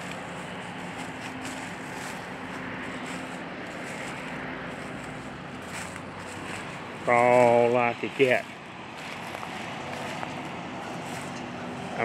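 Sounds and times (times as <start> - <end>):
faint engine hum: 0.0 - 12.0
road traffic noise: 0.0 - 12.0.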